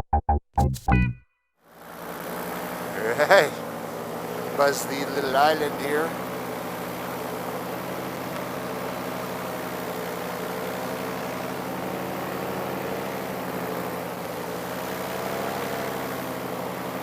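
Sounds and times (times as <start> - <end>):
paramotor engine and propeller drone: 1.7 - 17.0.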